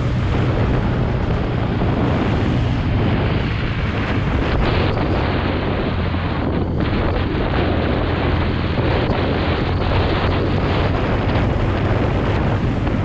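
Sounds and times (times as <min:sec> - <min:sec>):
motorcycle engine hum: 0:00.0 - 0:13.0
wind rush on microphone: 0:00.0 - 0:13.0.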